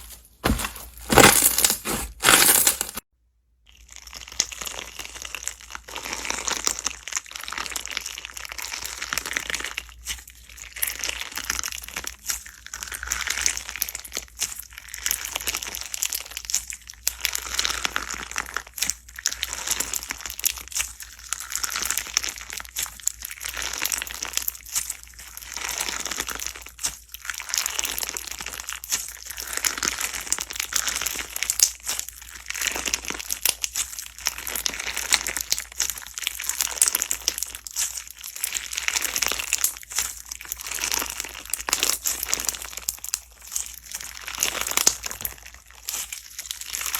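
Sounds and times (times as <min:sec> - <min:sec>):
slime crackling and popping: 0:00.5 - 0:03.0, 0:04.0 - 0:46.9.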